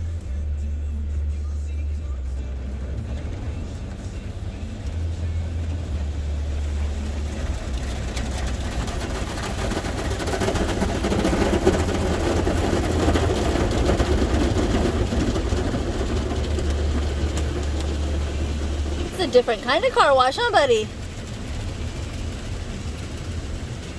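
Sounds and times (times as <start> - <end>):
car wash water and equipment: 0.0 - 23.9.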